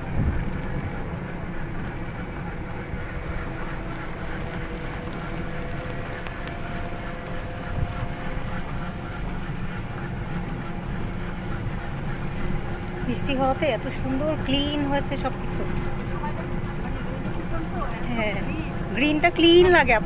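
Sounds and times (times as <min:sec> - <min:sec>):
buggy motor and tyres rumbling: 0:00.0 - 0:20.0.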